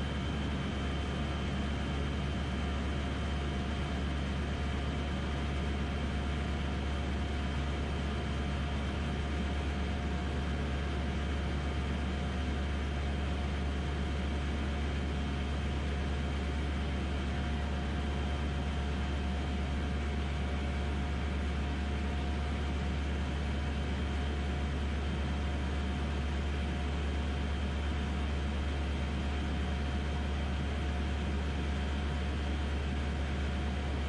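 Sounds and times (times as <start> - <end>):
aircraft engine and propeller drone: 0.0 - 34.0.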